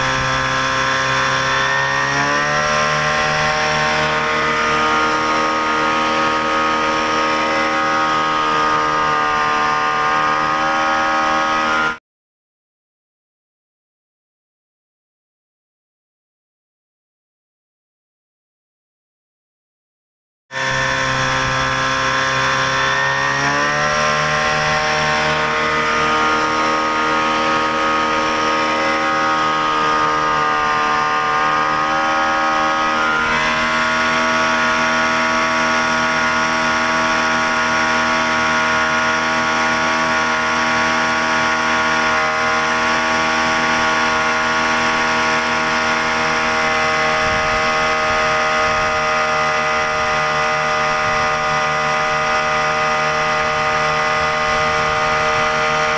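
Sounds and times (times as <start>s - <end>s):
outboard motor running: 0.0s - 12.0s, 20.5s - 55.9s.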